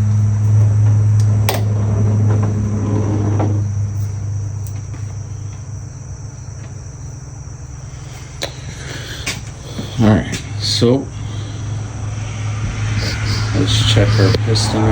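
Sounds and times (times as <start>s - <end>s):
loud low hum: 0.0s - 14.9s
thin high whine: 0.0s - 14.9s.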